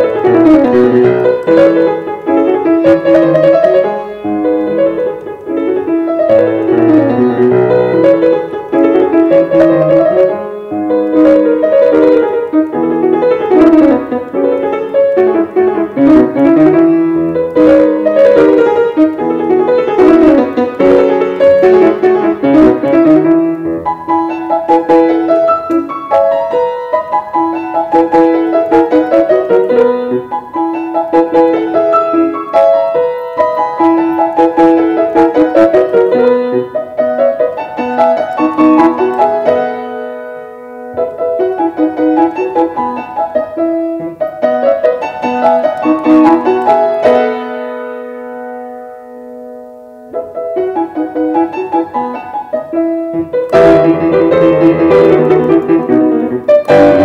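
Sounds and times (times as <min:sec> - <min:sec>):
solo grand piano classical piece: 0:00.0 - 0:57.0.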